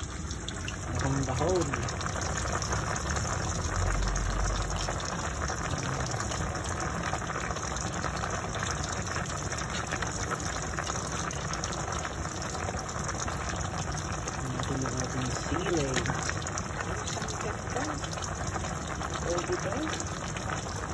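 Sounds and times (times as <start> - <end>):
soup boiling vigorously: 0.0 - 20.9.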